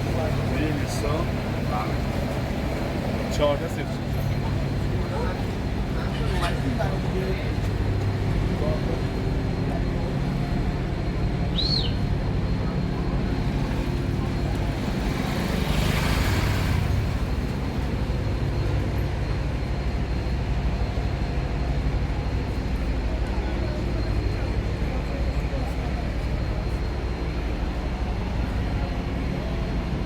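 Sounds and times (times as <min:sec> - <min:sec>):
low traffic rumble: 0:00.0 - 0:30.0.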